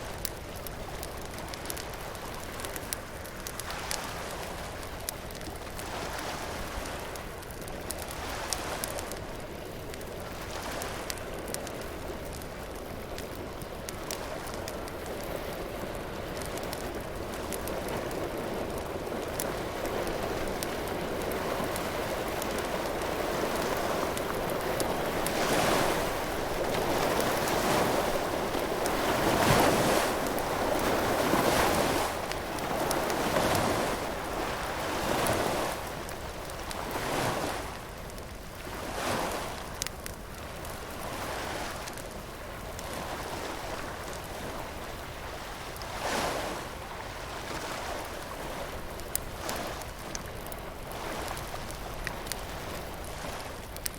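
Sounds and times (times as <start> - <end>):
bonfire crackling: 0.0 - 53.9
surf breaking on a beach: 0.0 - 53.9.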